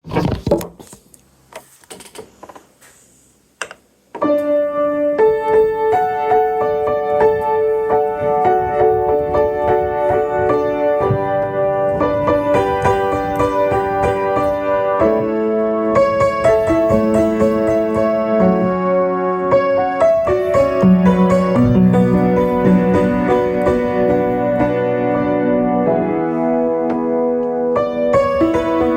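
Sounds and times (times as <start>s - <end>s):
piano playing slow chords: 4.2s - 28.9s.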